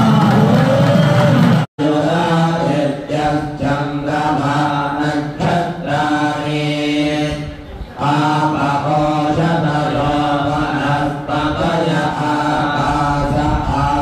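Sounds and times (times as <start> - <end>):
men chanting over microphone: 1.8 - 14.0.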